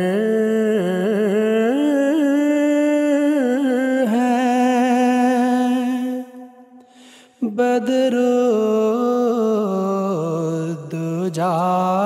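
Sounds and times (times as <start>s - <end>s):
man singing unaccompanied: 0.0s - 6.4s, 7.4s - 12.0s.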